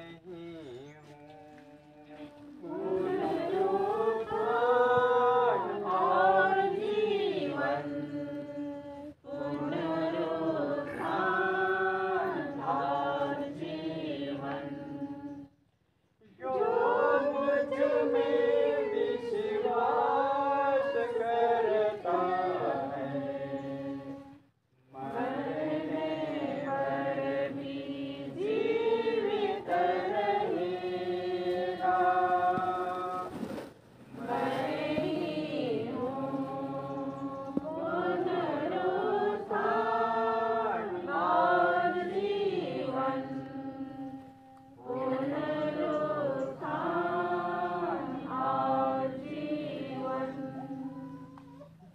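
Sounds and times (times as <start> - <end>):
group singing a hymn: 0.8 - 15.6, 16.2 - 51.9.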